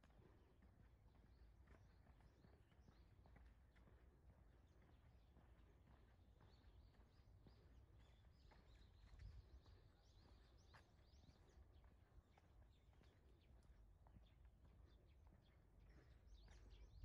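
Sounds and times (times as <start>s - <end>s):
small songbirds chirping: 0.8s - 17.0s.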